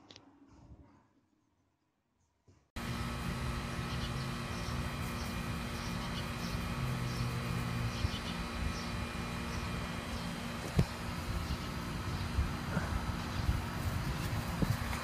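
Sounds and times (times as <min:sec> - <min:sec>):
low hum: 0:02.8 - 0:15.0
outdoor background rumble: 0:02.8 - 0:15.0.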